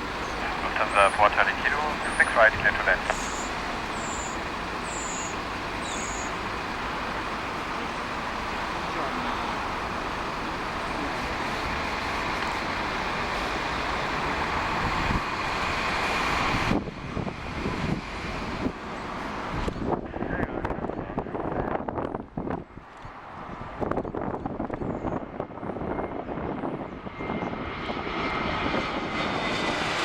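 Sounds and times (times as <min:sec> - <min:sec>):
jet airliner engine rush: 0:00.0 - 0:30.0.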